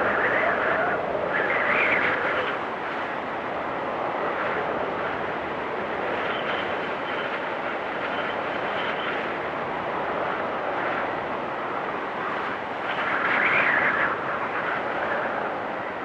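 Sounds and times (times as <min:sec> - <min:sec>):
storm wind blowing: 0:00.0 - 0:16.0
whistling wind gust: 0:00.0 - 0:16.0.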